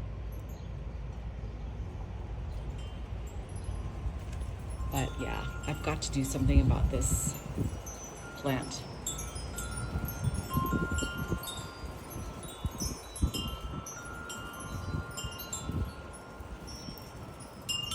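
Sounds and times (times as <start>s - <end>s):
wind buffeting microphone: 0.7s - 17.9s
wind chimes ringing: 2.6s - 17.9s.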